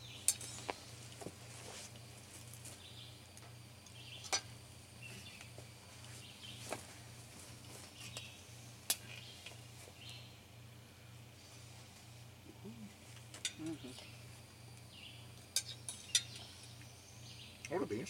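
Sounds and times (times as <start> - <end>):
birds chirping: 0.0 - 1.2, 2.0 - 10.6, 12.4 - 18.0.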